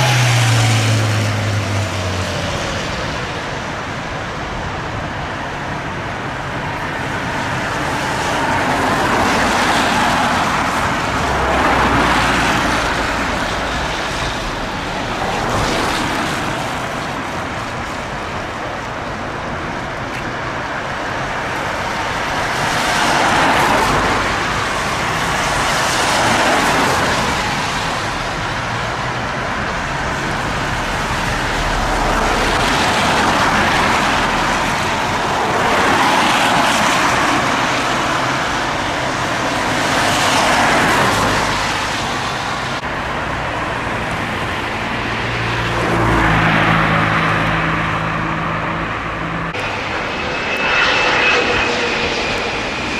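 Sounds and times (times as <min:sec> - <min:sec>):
cars passing: 0:00.0 - 0:52.9.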